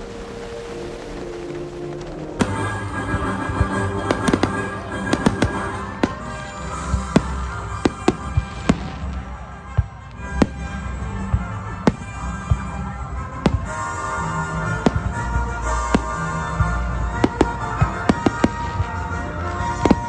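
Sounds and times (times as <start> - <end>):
music playing: 0.0 - 20.0.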